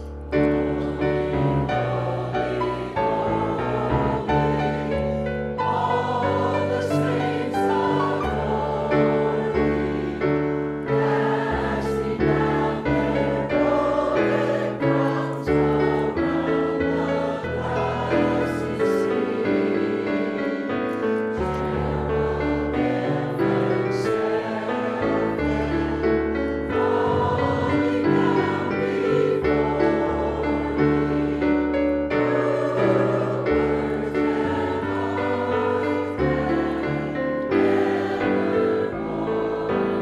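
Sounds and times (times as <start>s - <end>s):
choir and congregation singing hymn: 0.0s - 40.0s
keyboard accompaniment: 0.0s - 40.0s.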